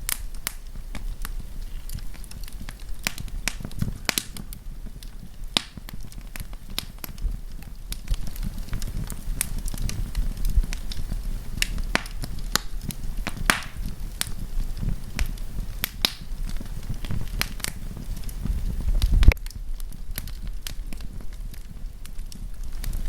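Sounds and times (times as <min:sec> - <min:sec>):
campfire pops and snaps: 0:00.0 - 0:23.0
low rumble of burning fire: 0:00.0 - 0:23.0.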